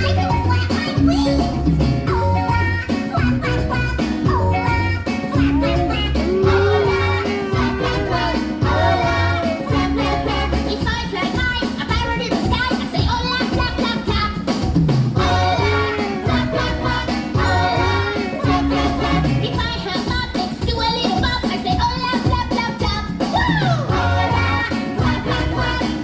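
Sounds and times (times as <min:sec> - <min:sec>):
person singing: 0:00.0 - 0:14.5, 0:15.2 - 0:26.0
upbeat show music: 0:00.0 - 0:26.0.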